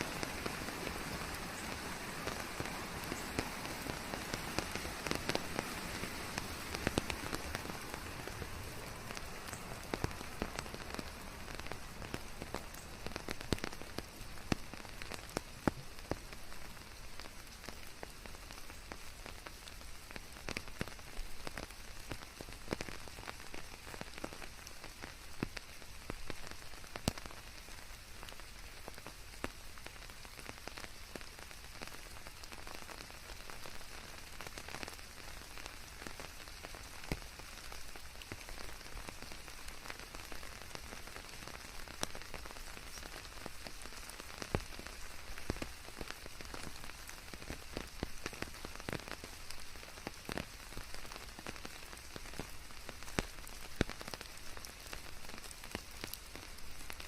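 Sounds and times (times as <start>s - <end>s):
raindrops striking close by: 0.0s - 57.0s
steady rain hiss: 0.0s - 57.0s.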